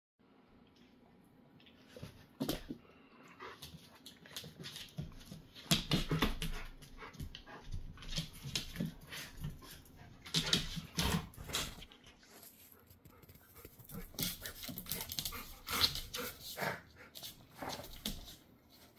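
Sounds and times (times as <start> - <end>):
dogs scuffling on floor: 3.6 - 18.9.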